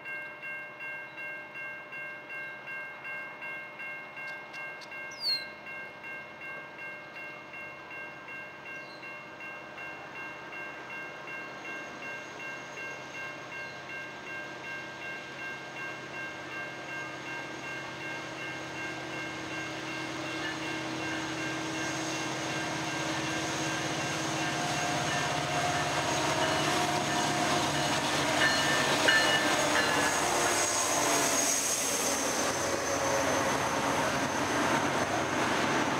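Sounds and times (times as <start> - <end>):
crossing warning bell ringing: 0.0 - 35.0
diesel freight train rumble: 3.9 - 35.9.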